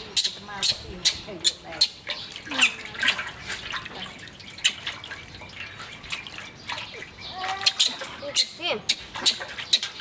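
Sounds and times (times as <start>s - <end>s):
bath water dripping and splashing: 0.0s - 10.0s
sharp water drips: 0.0s - 10.0s.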